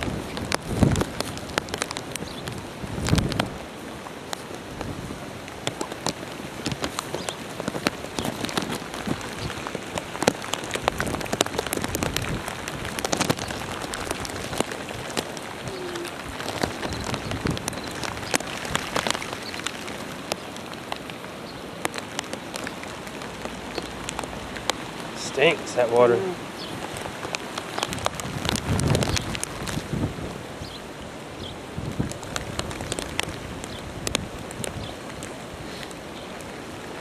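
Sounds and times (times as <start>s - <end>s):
heavy rain hissing: 0.0s - 37.0s
raindrops striking nearby: 0.0s - 37.0s.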